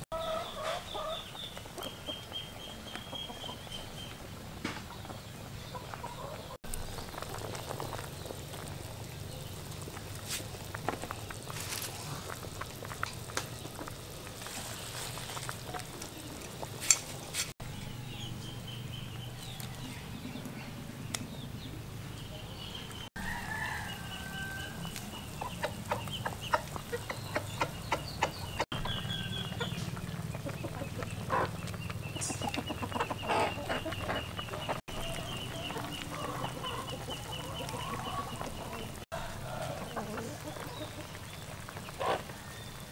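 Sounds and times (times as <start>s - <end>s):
chickens clucking: 0.0s - 8.7s, 9.4s - 42.9s.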